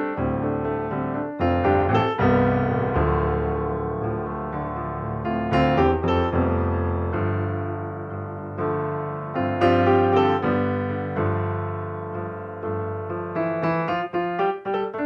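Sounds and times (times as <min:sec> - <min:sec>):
calm piano music: 0:00.0 - 0:15.0.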